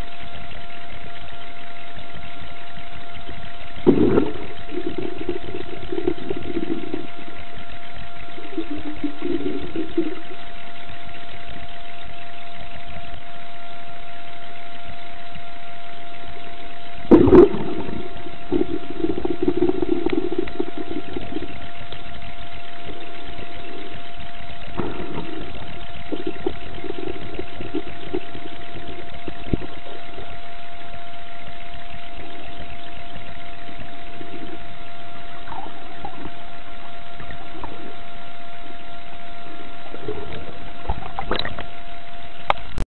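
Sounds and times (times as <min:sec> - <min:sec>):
boat motor humming: 0:00.0 - 0:42.8
water noise: 0:00.0 - 0:42.8.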